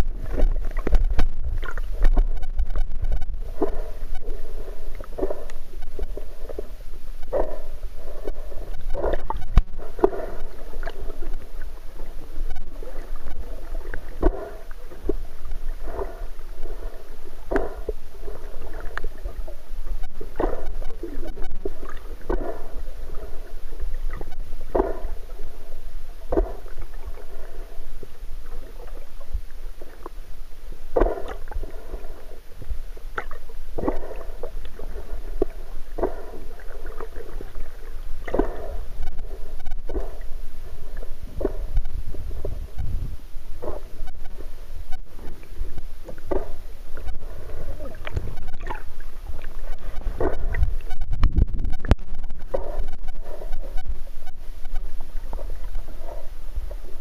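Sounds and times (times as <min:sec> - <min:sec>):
constant low underwater rumble: 0:00.0 - 0:57.0
underwater water swishing and bubbling: 0:00.0 - 0:57.0.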